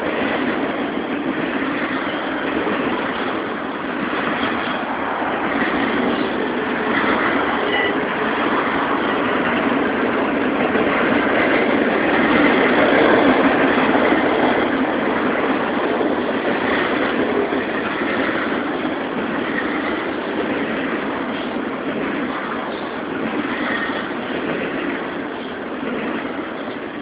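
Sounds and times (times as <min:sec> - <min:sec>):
train cars rolling on rails: 0:00.0 - 0:27.0.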